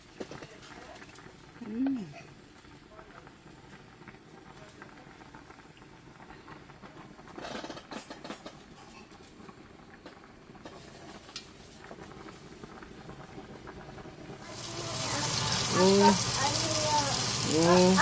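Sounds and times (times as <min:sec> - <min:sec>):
beans boiling in water: 0:00.0 - 0:18.0.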